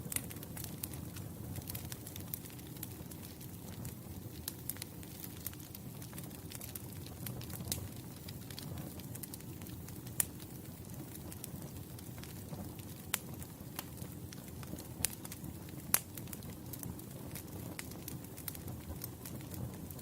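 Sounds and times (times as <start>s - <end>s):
campfire flames rumbling: 0.0s - 20.0s
fire crackles and pops: 0.0s - 20.0s.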